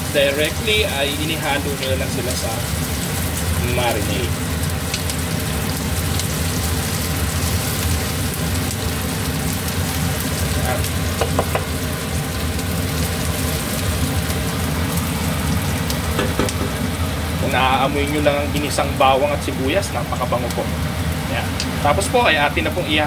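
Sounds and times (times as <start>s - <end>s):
onion and garlic sizzling in oil: 0.0s - 23.0s.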